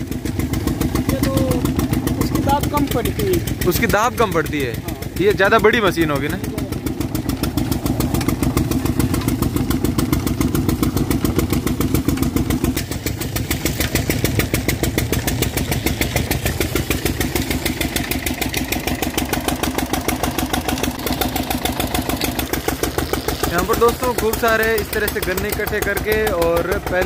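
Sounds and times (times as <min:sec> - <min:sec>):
diesel engine thumping: 0:00.0 - 0:27.0.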